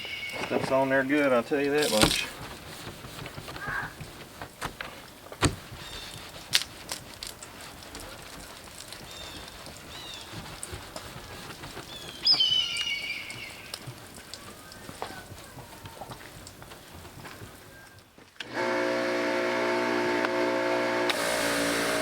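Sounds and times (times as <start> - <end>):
brush scrubbing wet paint: 0.5 - 17.7, 21.1 - 22.0.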